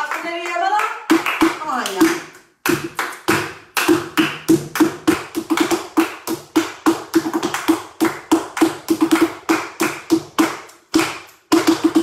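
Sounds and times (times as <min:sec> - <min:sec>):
flamenco shoes on wooden floor: 0:00.0 - 0:12.0.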